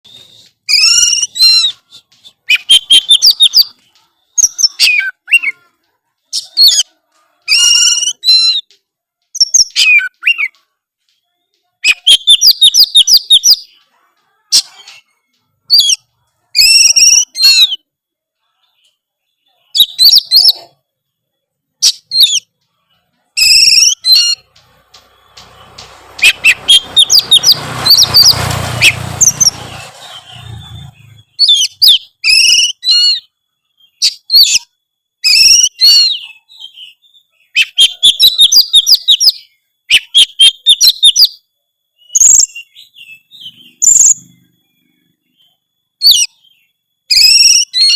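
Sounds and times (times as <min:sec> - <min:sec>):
bird singing whistles and trills: 0:00.1 - 0:05.6, 0:07.5 - 0:08.7, 0:09.3 - 0:10.6, 0:11.8 - 0:13.8, 0:14.5 - 0:17.9, 0:19.4 - 0:20.7, 0:21.8 - 0:22.5, 0:23.4 - 0:24.5, 0:25.2 - 0:47.9.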